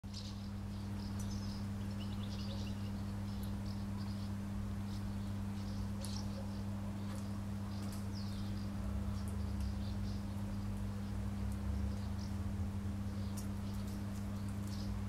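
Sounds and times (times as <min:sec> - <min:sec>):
small birds chirping: 0:00.1 - 0:15.0
steady low hum: 0:00.1 - 0:15.0.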